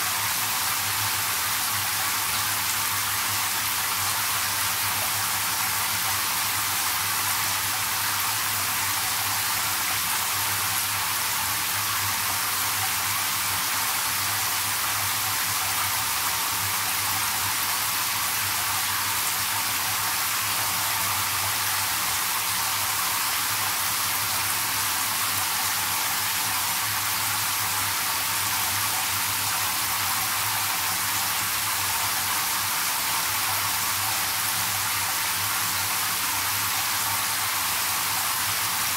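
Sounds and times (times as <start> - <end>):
shower water splashing into tub: 0.0 - 38.9.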